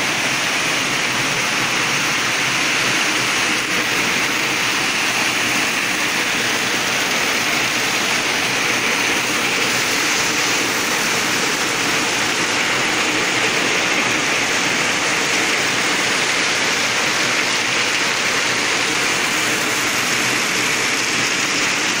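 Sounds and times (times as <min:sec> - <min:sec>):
heavy rain on plants: 0:00.0 - 0:22.0.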